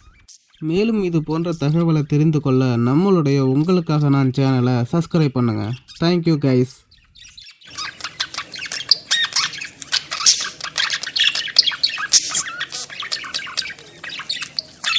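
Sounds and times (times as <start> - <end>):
lovebirds chirping and squawking: 0.0 - 14.9.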